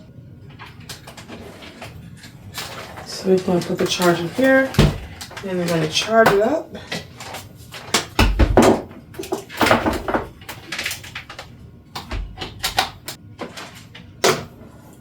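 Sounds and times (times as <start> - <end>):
hard plastic parts clunking: 0.6 - 14.5.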